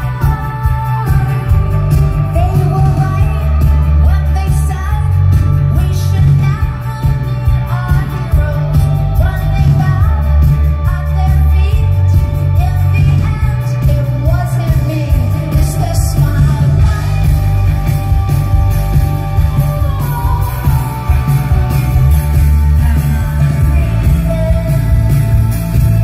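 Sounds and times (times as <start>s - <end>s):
drums: 0.0s - 26.0s
electric guitar: 0.0s - 26.0s
heavy bass: 0.0s - 26.0s
woman singing lead vocal: 0.0s - 26.0s.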